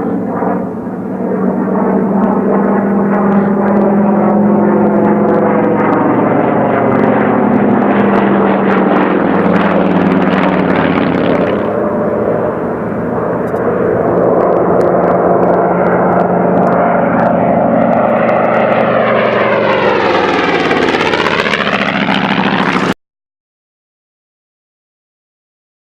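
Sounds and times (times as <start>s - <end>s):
propeller airplane engine droning: 0.0s - 23.0s.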